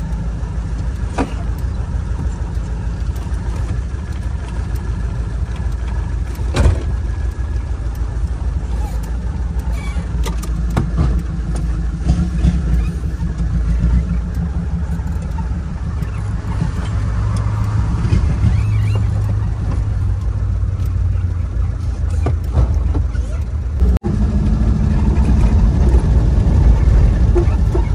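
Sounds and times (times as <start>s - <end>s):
car engine running from inside cabin: 0.0s - 27.9s.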